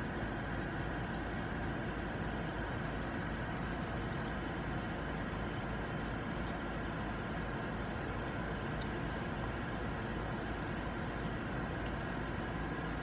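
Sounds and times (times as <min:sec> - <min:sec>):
air conditioning fan blowing: 0:00.0 - 0:13.0
car engine running: 0:00.0 - 0:13.0.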